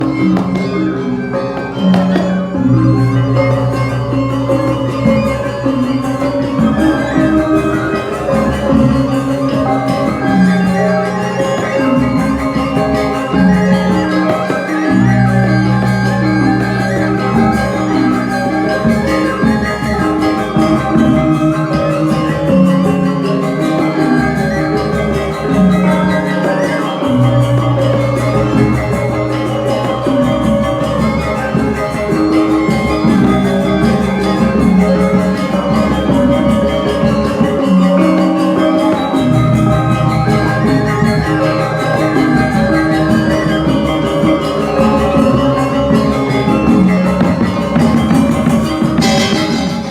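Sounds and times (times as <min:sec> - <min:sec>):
bamboo flute music: 0:00.0 - 0:49.9
held low accompaniment notes: 0:00.0 - 0:49.9.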